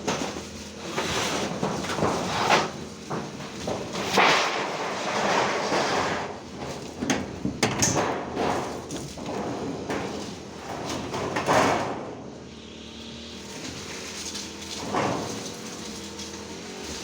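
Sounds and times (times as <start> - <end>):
scraping and rustling: 0.0 - 12.1, 13.4 - 17.0.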